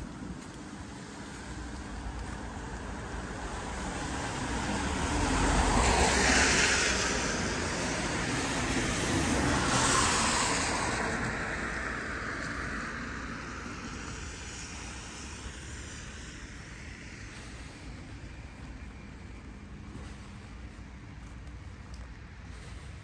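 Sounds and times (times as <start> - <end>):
car passing by: 1.2 - 20.5.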